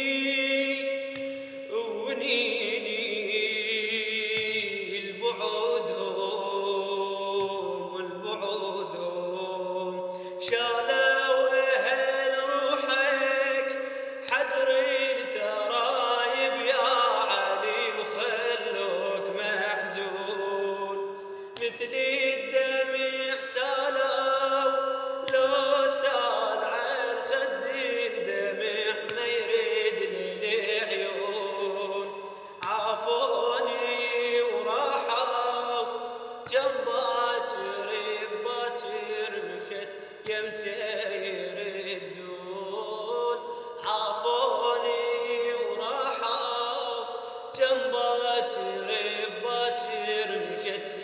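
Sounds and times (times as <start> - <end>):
man chanting: 0.0 - 51.0.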